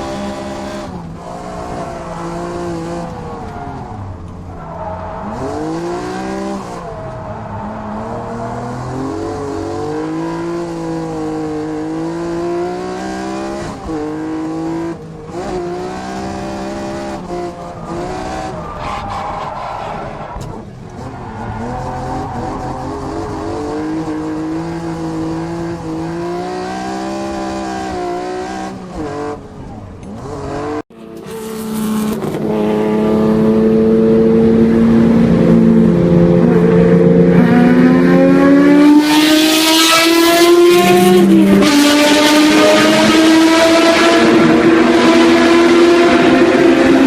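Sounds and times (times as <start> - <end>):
car engine revving hard: 0.0 - 3.6, 5.2 - 29.4, 30.0 - 47.0.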